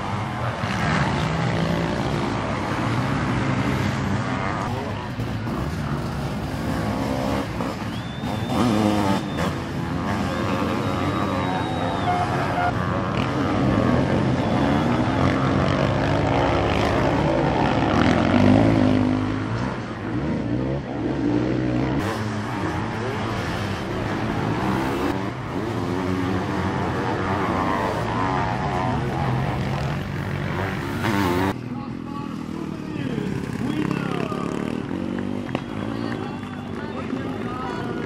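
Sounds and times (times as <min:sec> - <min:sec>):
motocross engines revving: 0:00.0 - 0:38.0.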